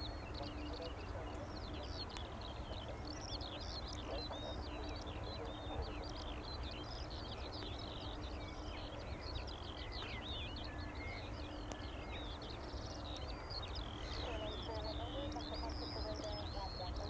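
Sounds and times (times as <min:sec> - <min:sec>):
songbirds singing: 0:00.0 - 0:17.0
steady low rumble: 0:00.0 - 0:17.0.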